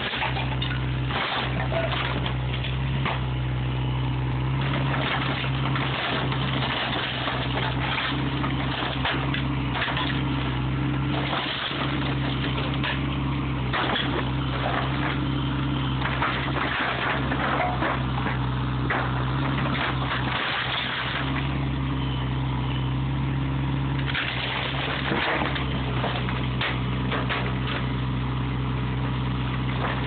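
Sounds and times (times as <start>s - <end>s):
debris knocking: 0.0s - 3.4s, 4.6s - 21.5s, 24.0s - 28.0s
wood cracking and splintering: 0.0s - 3.4s, 4.5s - 21.6s, 24.0s - 28.2s
excavator diesel engine running: 0.0s - 30.0s.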